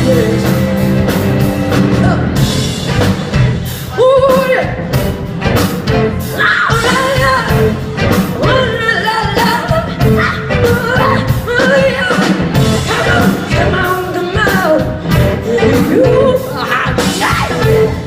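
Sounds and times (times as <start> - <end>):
bending melodic lead line: 0.0 - 18.0
live rock band playing: 0.0 - 18.0
steady drum beat: 0.0 - 18.0.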